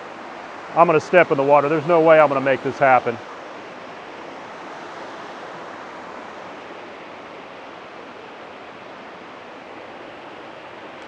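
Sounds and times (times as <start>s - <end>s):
water cascading over rocks: 0.0s - 11.0s.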